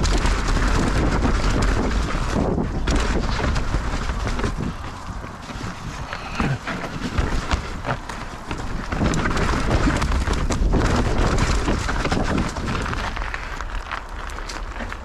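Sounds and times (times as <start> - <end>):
bike clattering knocks: 0.0 - 13.3
wind on microphone: 0.0 - 13.8
bike tyres rattling on ground: 0.0 - 15.0.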